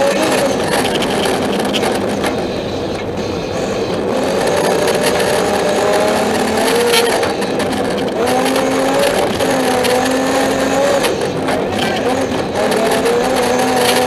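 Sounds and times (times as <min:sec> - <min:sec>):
car engine revving: 0:00.0 - 0:14.0
tyre and road noise on snow: 0:00.0 - 0:14.0.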